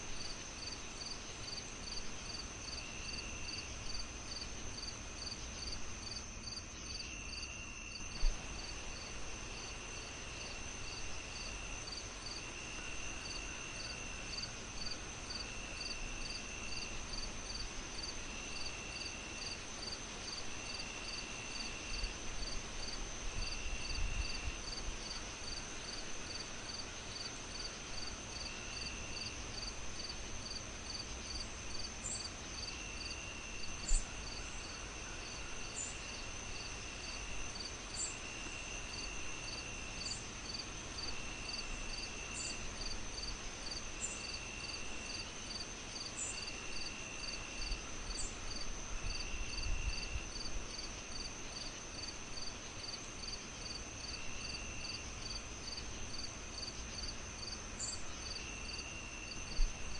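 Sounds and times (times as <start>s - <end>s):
lower insect chirp: 0.0s - 59.9s
pulsed cricket chirps: 0.0s - 59.9s
steady high insect trill: 0.0s - 59.9s.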